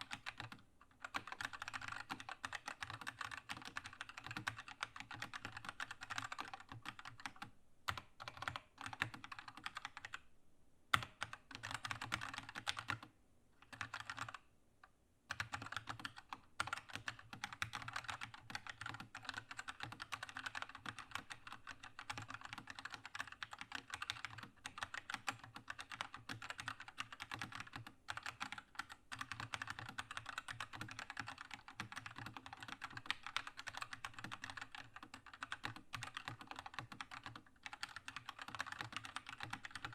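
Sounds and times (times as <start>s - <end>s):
mechanical keyboard typing: 0.0s - 10.2s, 10.9s - 14.4s, 15.3s - 39.9s.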